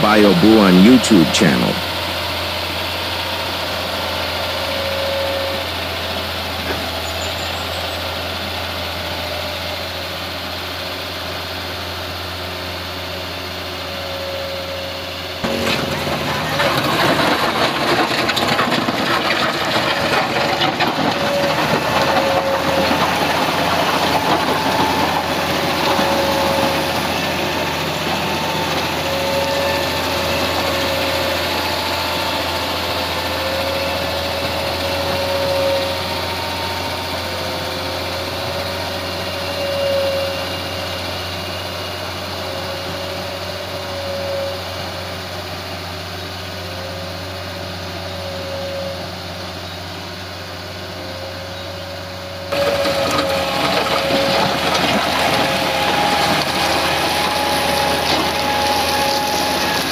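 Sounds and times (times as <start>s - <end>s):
diesel engine running with whine: 0.0s - 59.9s.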